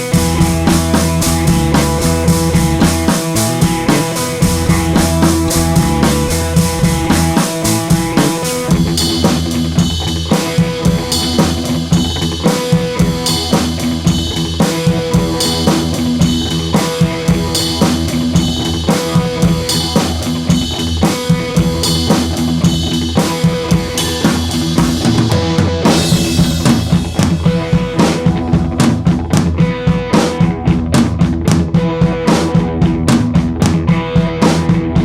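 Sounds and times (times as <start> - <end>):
instrumental music with drums: 0.0 - 35.0.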